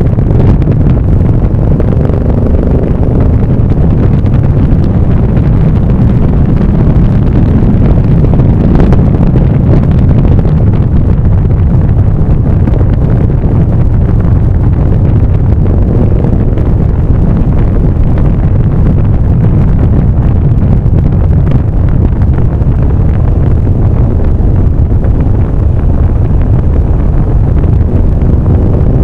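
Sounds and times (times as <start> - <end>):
road and engine noise: 0.0 - 29.0
wind rushing over microphone: 0.0 - 29.0.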